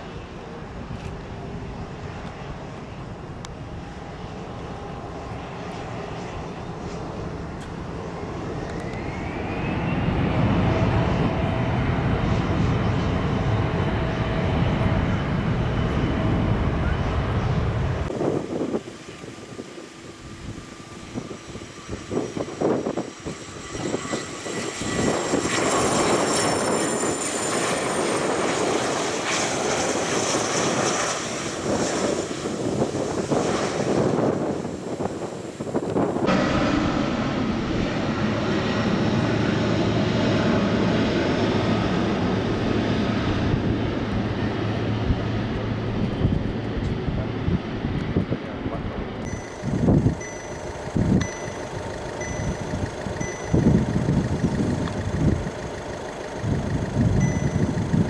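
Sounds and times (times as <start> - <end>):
wind buffeting microphone: 0.0 - 40.3, 42.8 - 58.0
high engine whine: 0.0 - 58.0
jet approaching to land: 0.0 - 58.0
jet engines spooling up: 0.0 - 58.0.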